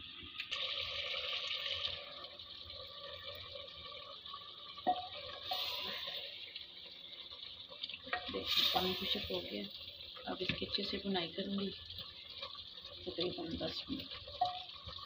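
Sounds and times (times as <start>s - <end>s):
curry sizzling in a pot: 0.0s - 15.0s.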